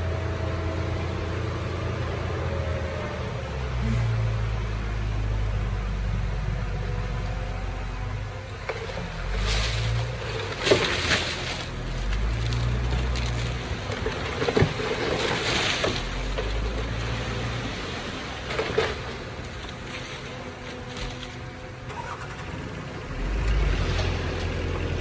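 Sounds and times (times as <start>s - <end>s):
low diesel engine drone: 0.0s - 25.0s.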